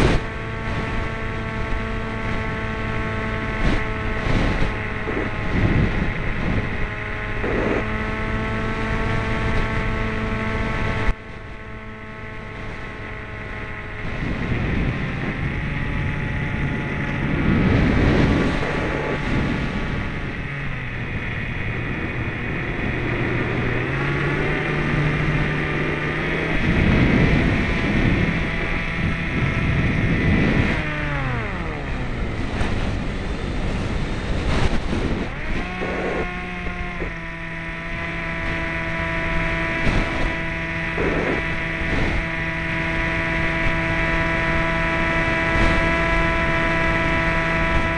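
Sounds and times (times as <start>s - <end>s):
model airplane motor whine: 0.0s - 47.9s
wind rush: 0.0s - 47.9s.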